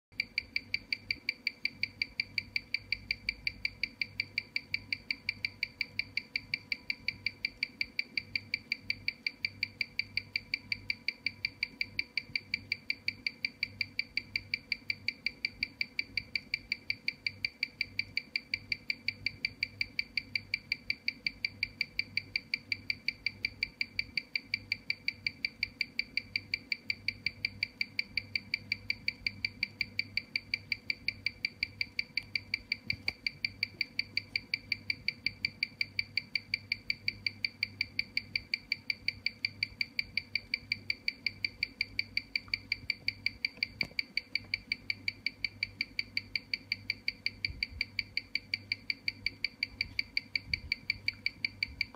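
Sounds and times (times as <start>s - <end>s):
watch ticking: 0.2s - 51.9s.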